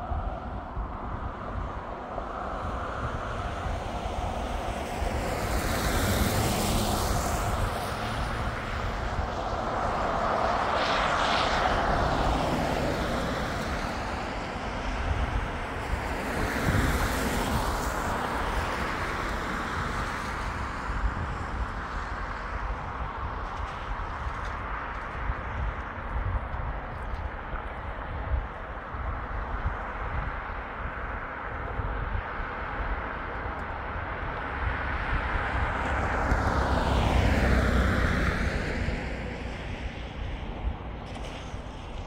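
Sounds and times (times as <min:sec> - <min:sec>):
vehicles passing by: 0:00.0 - 0:42.0.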